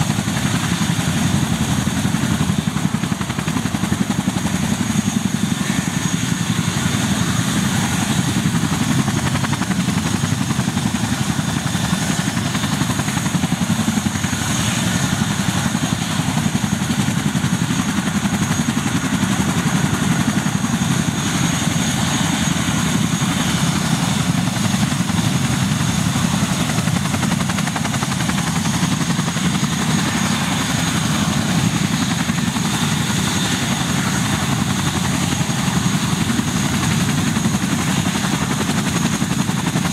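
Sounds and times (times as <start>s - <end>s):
rapid helicopter rotor chop: 0.0s - 39.9s.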